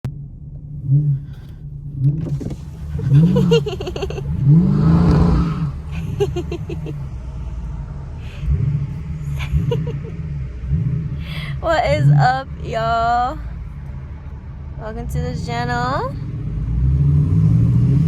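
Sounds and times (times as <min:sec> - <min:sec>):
car engine throttle blips: 0:00.0 - 0:18.0
exhaust crackle: 0:00.0 - 0:18.0.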